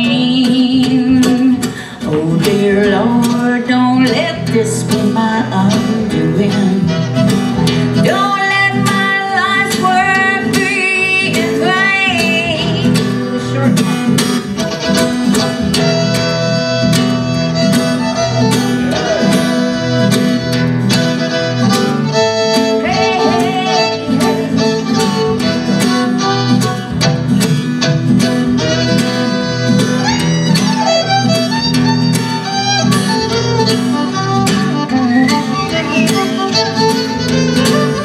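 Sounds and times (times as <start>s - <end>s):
acoustic guitar strumming chords: 0.0s - 38.0s
fiddle melody with sliding notes: 4.4s - 38.0s.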